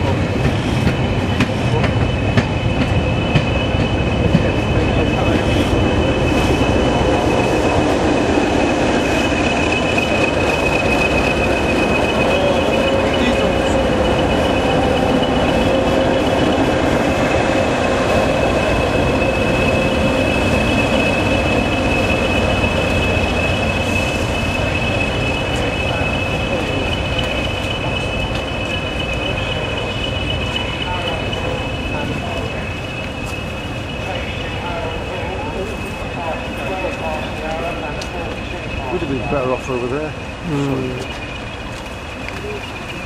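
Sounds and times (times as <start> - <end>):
train rumbling past: 0.0 - 43.0
high-pitched wheel squeal: 1.0 - 43.0.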